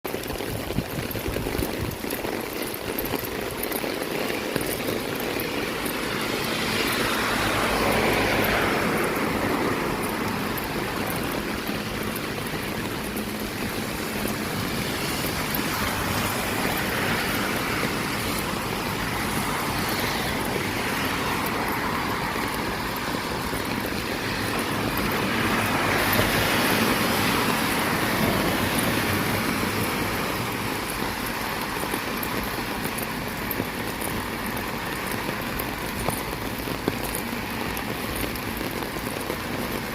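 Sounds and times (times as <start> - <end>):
steady rain falling: 0.1 - 39.9
vehicles hissing past on wet road: 3.9 - 39.9.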